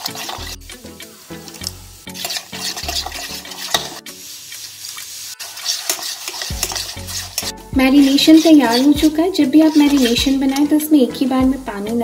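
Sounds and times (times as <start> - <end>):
batter stirred in a bowl: 0.0 - 0.8, 1.4 - 10.9.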